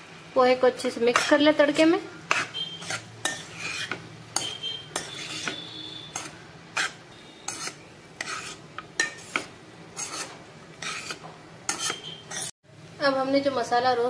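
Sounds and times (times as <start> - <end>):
spatula scraping a pan: 0.9 - 12.5.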